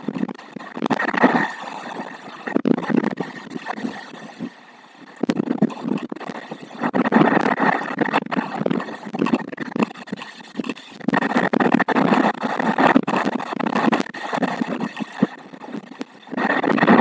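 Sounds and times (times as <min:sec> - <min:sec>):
storm wind and rain: 0:00.0 - 0:17.0.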